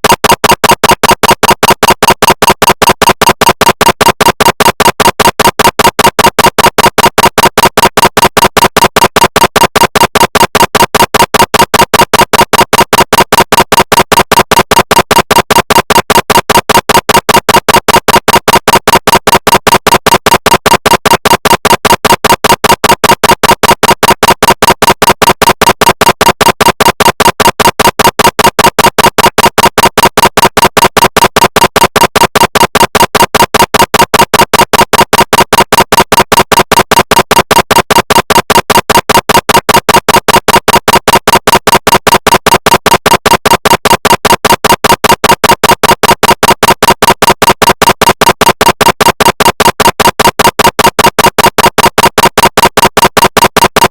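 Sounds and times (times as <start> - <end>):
rapid knocking pulses with buzzing: 0.0 - 53.9.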